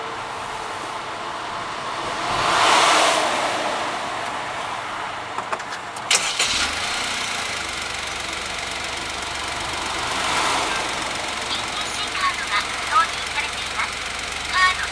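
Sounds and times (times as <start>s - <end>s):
car engine starting and idling: 1.8s - 14.9s.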